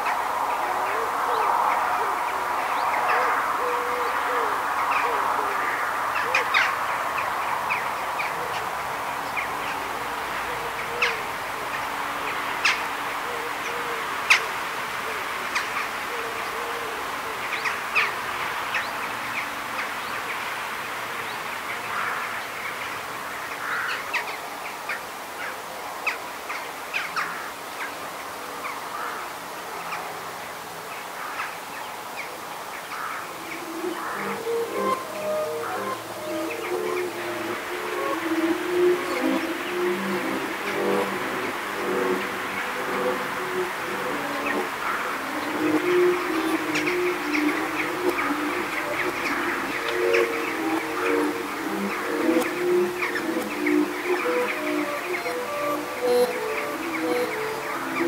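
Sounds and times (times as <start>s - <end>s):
birds chirping: 0.0s - 25.1s, 31.6s - 58.0s
background hiss: 0.0s - 58.0s
low wavering bird calls: 0.0s - 58.0s.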